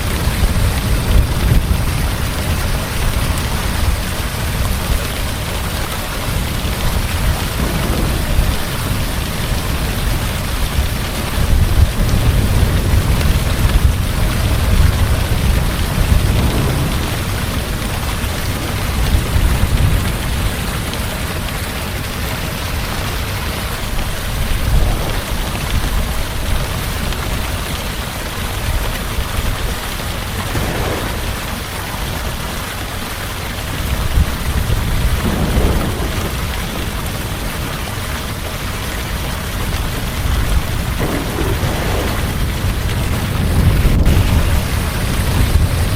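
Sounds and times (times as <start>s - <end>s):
heavy rain falling: 0.0s - 45.9s
distant thunder rumbling: 0.1s - 45.9s.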